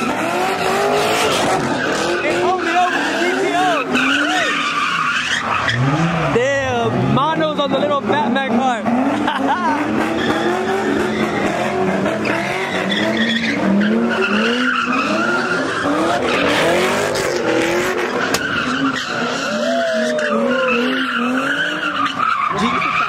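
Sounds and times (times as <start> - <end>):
tyres squealing: 0.0 - 6.4, 8.1 - 23.0
car engine revving: 0.0 - 23.0.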